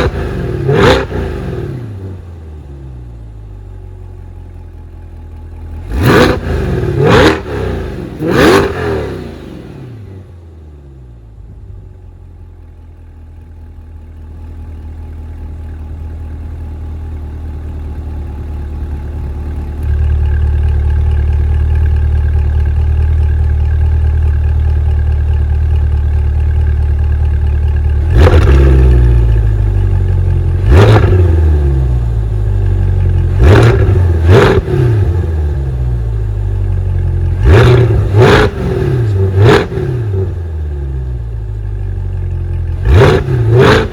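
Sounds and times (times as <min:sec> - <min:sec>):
sports car engine revving: 0:00.0 - 0:04.9, 0:05.6 - 0:11.6, 0:17.1 - 0:43.9
sports car engine idling: 0:00.0 - 0:43.9.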